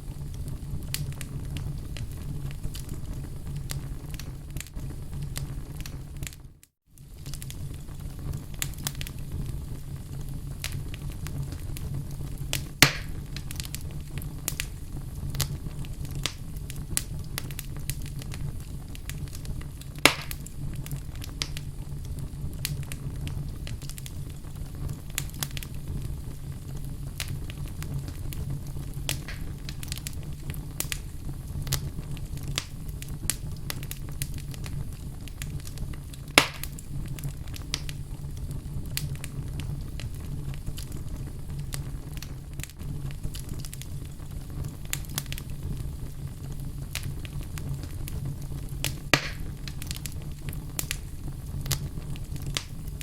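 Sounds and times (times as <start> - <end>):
fire crackling: 0.0 - 53.0
loud sharp pops of fire: 0.0 - 53.0
low rumble of flame: 0.0 - 53.0.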